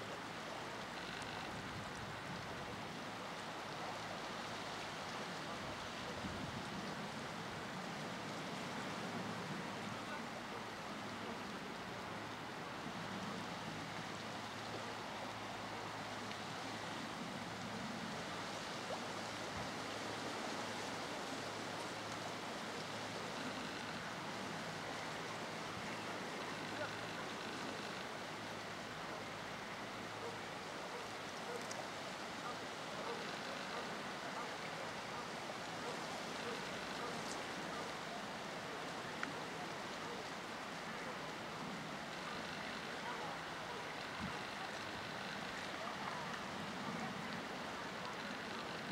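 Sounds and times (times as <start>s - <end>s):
outdoor ambience hiss: 0.0s - 48.9s
rippling lake water: 0.0s - 48.9s
wind: 0.0s - 48.9s.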